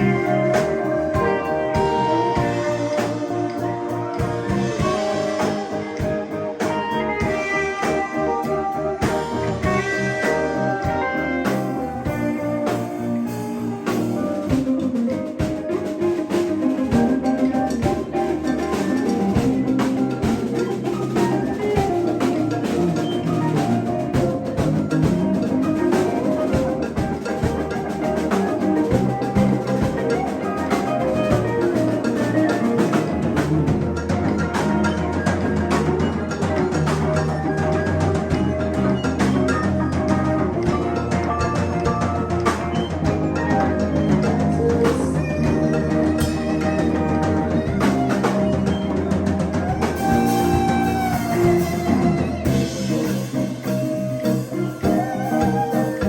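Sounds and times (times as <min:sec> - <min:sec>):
drum kit playing: 0:00.0 - 0:56.0
guitar lines: 0:00.0 - 0:56.0.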